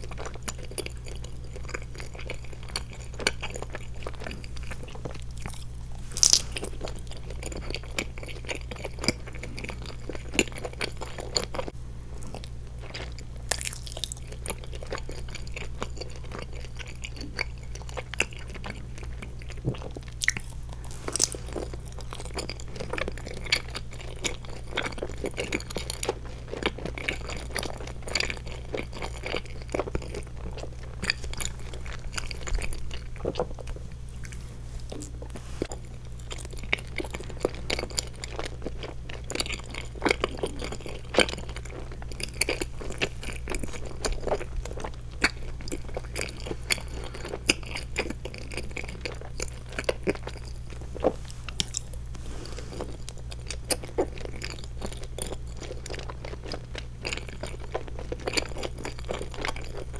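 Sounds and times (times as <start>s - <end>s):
chewing gummy candy: 0.0s - 59.9s.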